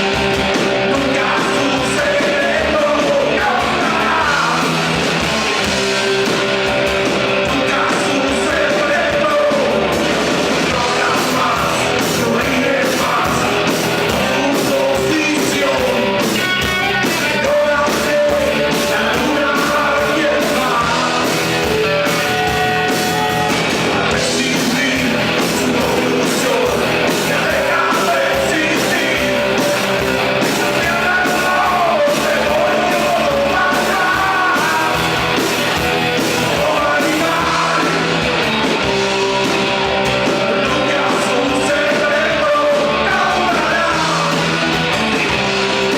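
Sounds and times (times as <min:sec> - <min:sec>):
drums on a steady beat: 0:00.0 - 0:45.9
rock band playing: 0:00.0 - 0:45.9
person singing: 0:00.6 - 0:05.3, 0:07.3 - 0:10.0, 0:10.6 - 0:23.2, 0:23.8 - 0:45.9.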